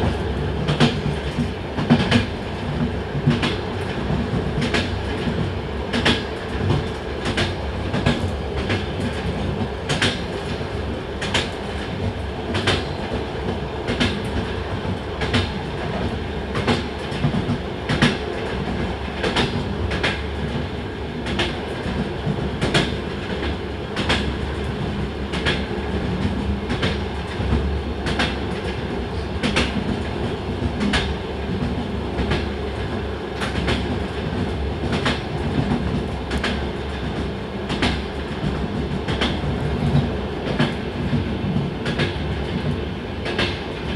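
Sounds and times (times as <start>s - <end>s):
train rumble: 0.0s - 43.9s
train wheels clacking over rail joints: 0.7s - 10.6s, 11.2s - 43.9s.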